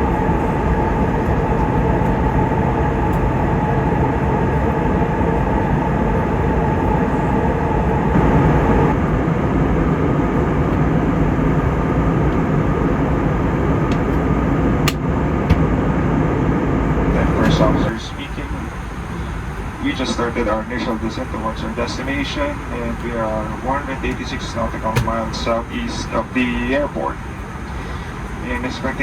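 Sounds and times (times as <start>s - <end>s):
airplane cabin airflow and engine: 0.0s - 29.0s
faint steady hum: 0.0s - 29.0s.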